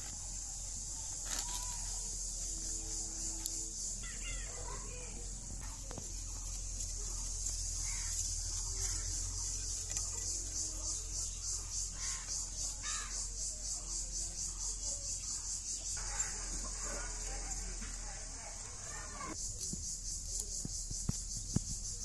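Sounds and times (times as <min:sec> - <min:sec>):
insects buzzing in pulses: 0:00.0 - 0:22.0.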